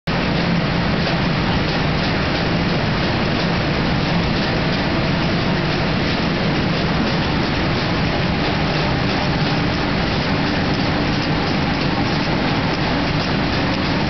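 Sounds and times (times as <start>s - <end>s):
machine running: 0.1s - 14.0s.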